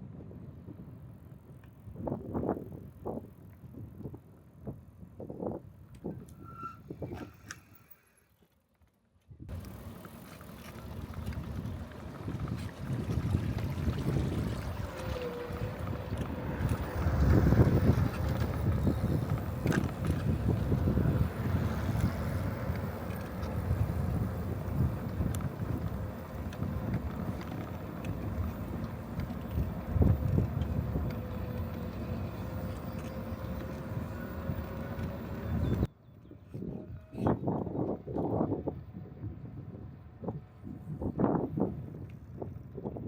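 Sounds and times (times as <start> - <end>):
wind buffeting microphone: 0.0 - 7.4, 9.4 - 43.0.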